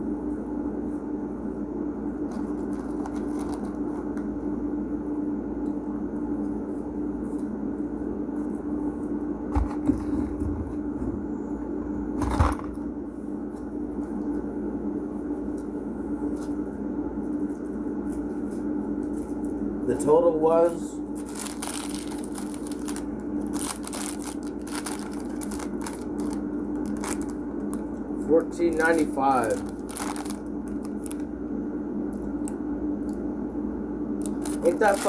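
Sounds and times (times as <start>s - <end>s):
droning hum: 0.0s - 35.0s.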